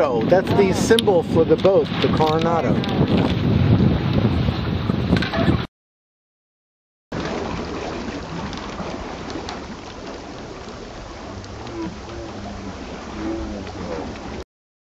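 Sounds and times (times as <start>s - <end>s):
sea water splashing along hull: 0.0s - 5.7s, 7.1s - 14.4s
wind buffeting microphone: 0.0s - 5.7s, 7.1s - 14.4s.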